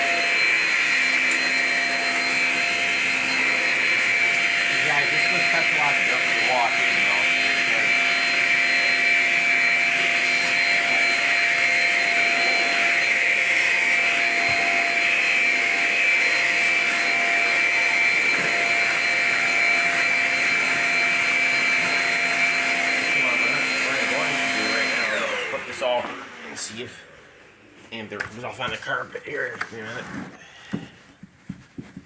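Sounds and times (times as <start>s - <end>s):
vacuum motor whine: 0.0s - 27.0s.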